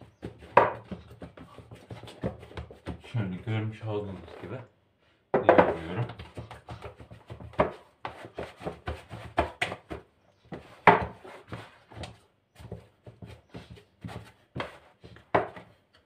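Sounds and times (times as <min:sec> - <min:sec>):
hand kneading sticky dough: 0:00.0 - 0:04.6, 0:05.8 - 0:15.8.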